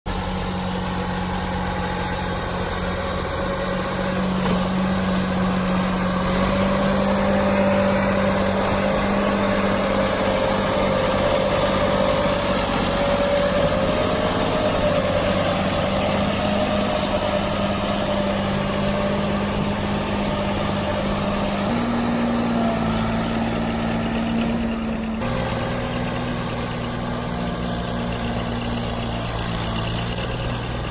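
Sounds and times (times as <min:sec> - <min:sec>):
tractor diesel engine running: 0:00.1 - 0:30.9.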